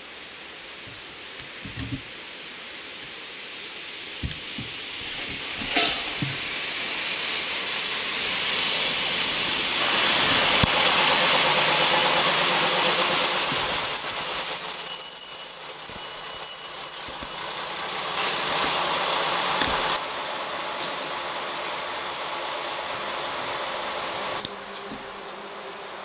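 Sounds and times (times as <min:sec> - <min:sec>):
diesel railbus rumbling past: 0:02.2 - 0:26.0.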